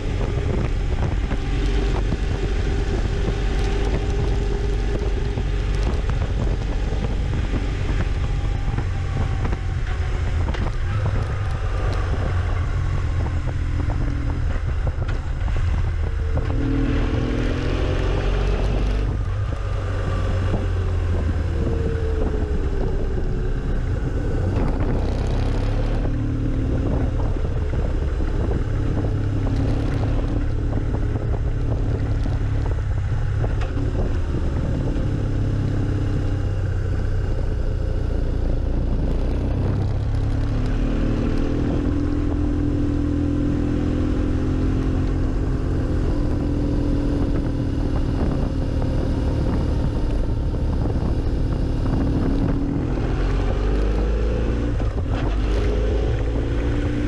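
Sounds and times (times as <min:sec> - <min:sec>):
motorcycle engine revving: 0:00.0 - 0:57.0
wind noise on microphone: 0:00.0 - 0:57.0.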